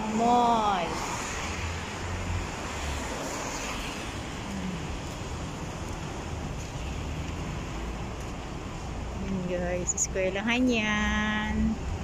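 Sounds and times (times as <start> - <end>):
street traffic rumble and hiss: 0.0 - 12.0.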